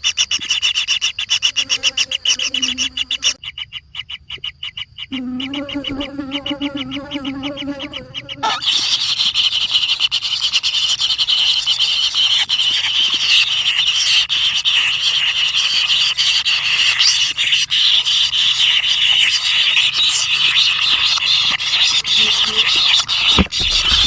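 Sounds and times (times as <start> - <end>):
animal chorus of rasping calls: 0.0 - 24.0.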